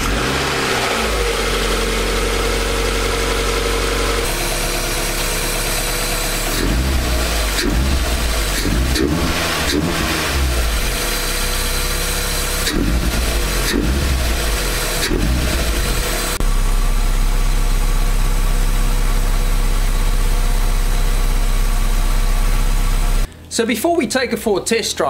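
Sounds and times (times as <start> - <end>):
car engine revving and idling: 0.0 - 23.3.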